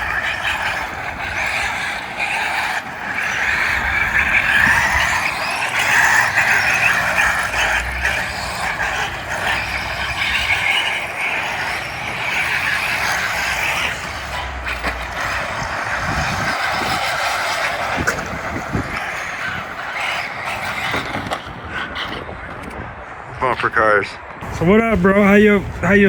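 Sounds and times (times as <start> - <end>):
radio-controlled cars buzzing: 0.0 - 23.3, 24.4 - 26.0.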